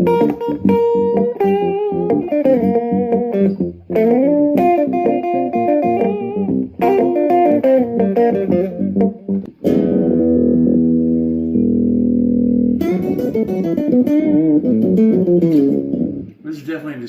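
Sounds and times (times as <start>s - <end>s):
acoustic guitar with bass octave: 0.0s - 16.4s.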